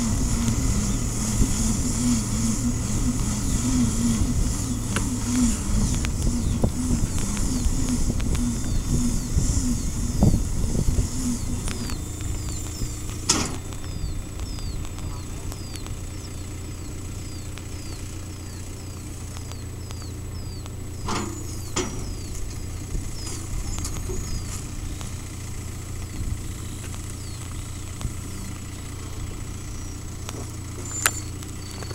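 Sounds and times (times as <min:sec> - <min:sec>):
tractor engine droning: 0:00.0 - 0:31.9
high falling chirp: 0:02.5 - 0:25.2, 0:26.0 - 0:31.9.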